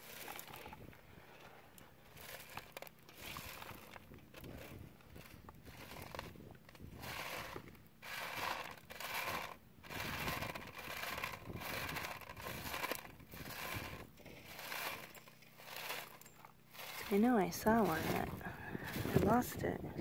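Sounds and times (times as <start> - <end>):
dirt and gravel shaken on screen: 0.0 - 20.0.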